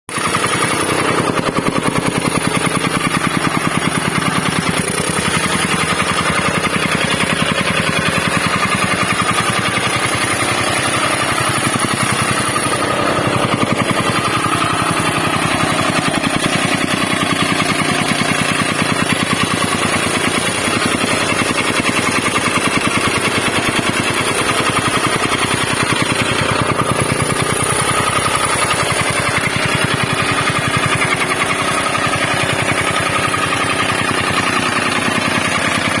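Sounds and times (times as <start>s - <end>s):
soil compactor hammering: 0.1s - 36.0s.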